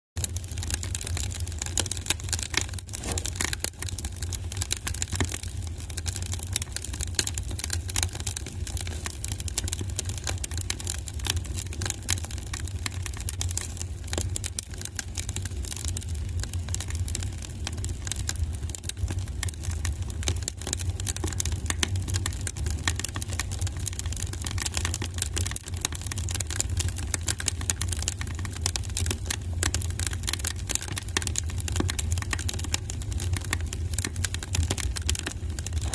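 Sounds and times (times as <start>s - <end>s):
low fire rumble: 0.2s - 35.9s
wood fire crackling and popping: 0.2s - 35.9s.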